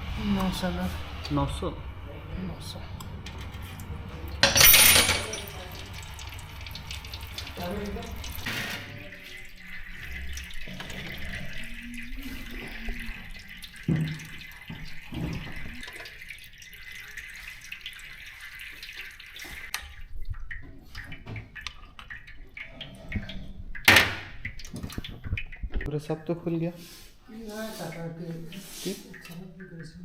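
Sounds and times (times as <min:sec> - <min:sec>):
liquid running and trickling: 0:00.1 - 0:30.0.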